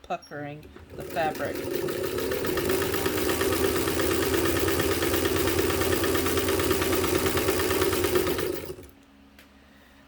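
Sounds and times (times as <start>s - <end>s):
sewing machine motor hum: 0.6s - 9.0s.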